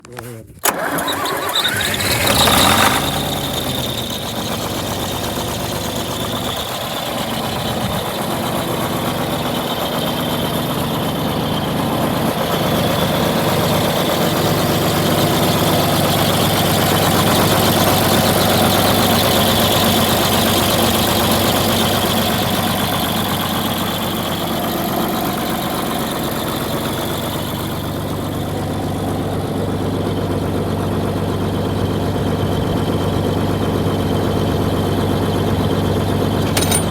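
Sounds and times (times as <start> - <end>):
tractor diesel engine idling: 0.1 - 36.9.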